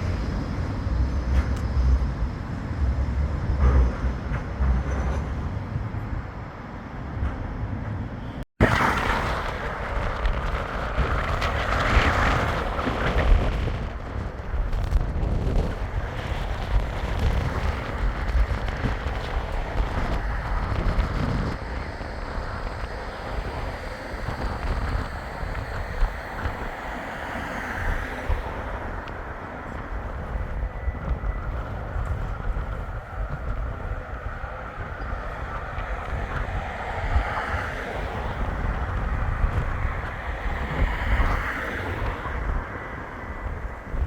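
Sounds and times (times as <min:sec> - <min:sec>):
tram running past: 0:00.0 - 0:44.0
wind rumbling on microphone: 0:00.0 - 0:44.0.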